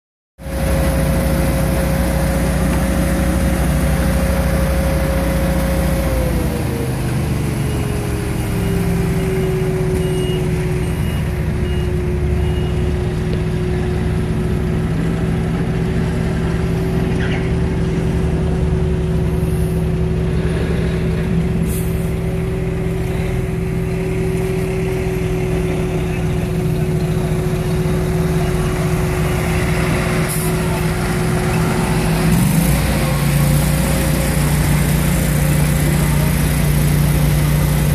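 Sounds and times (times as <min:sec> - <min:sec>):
large engine whining: 0:00.4 - 0:37.9.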